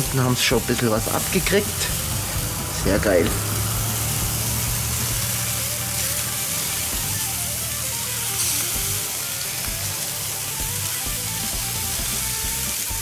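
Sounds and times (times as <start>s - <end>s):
background music: 0.0s - 13.0s
meatballs sizzling on a grill: 0.0s - 13.0s.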